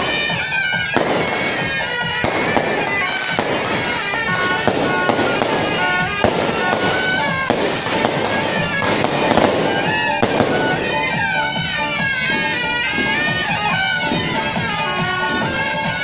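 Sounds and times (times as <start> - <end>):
firecrackers crackling: 0.0 - 16.0
shrill reed-horn melody: 0.0 - 16.0.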